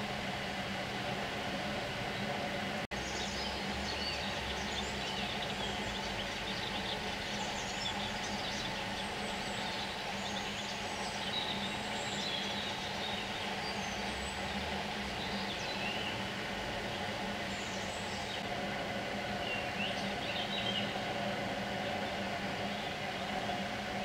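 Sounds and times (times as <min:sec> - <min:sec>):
low background rumble and hum: 0:00.0 - 0:24.0
birds chirping: 0:03.0 - 0:18.5, 0:19.3 - 0:23.6.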